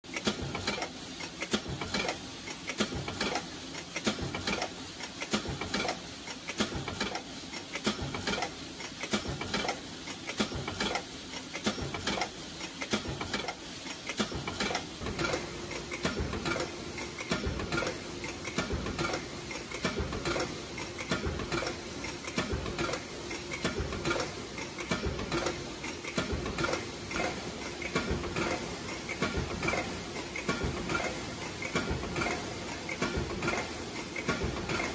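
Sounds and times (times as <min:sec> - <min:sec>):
mechanical clatter: 0:00.1 - 0:34.9.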